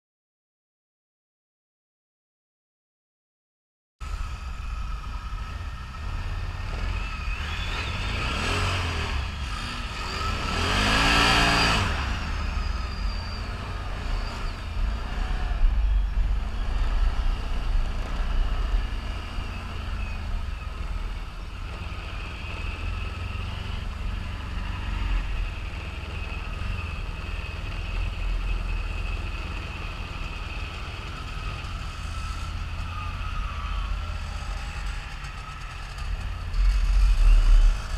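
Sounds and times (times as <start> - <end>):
atv engines revving: 4.1 - 37.9.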